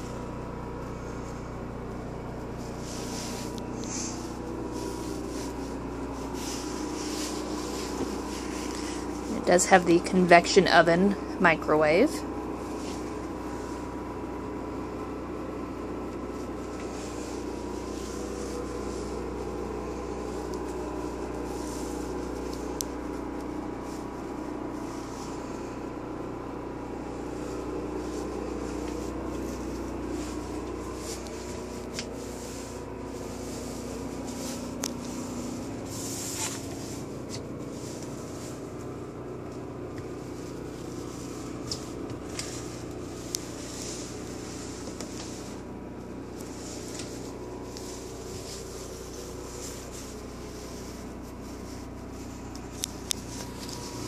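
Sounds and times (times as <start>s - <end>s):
mechanical hum with low drone: 0.0s - 54.0s.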